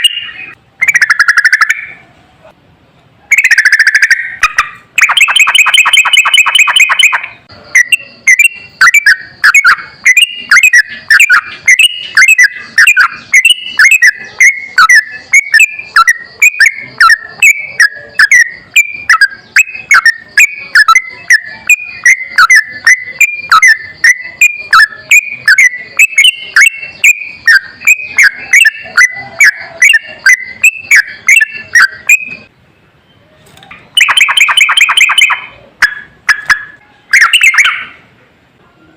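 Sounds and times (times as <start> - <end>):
songbird trilling and chirping: 0.0 - 2.0, 3.3 - 38.0.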